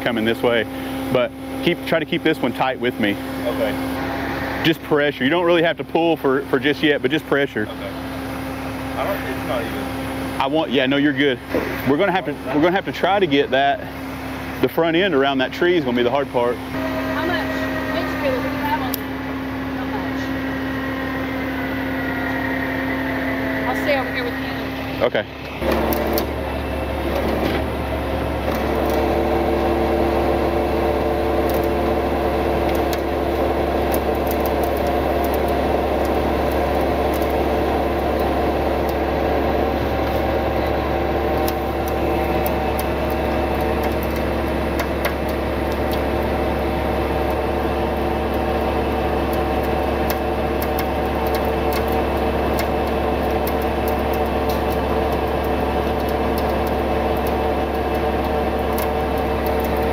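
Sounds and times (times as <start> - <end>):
tow truck engine and winch drone: 0.0 - 59.9.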